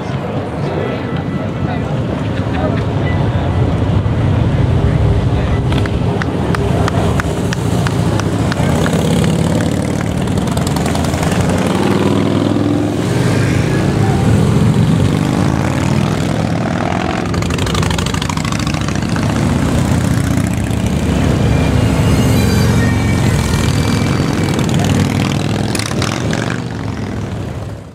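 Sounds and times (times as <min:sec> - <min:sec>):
motorcycles riding past: 0:01.9 - 0:27.9.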